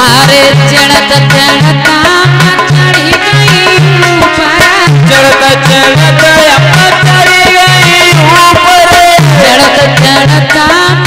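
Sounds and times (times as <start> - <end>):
devotional folk music: 0.0 - 11.0
hand drum rhythm: 0.0 - 11.0.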